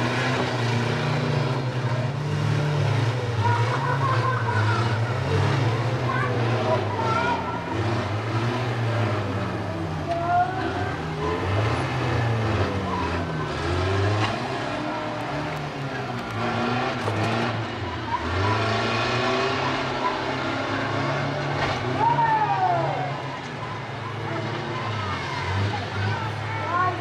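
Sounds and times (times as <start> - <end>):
van engines revving: 0.0 - 27.0.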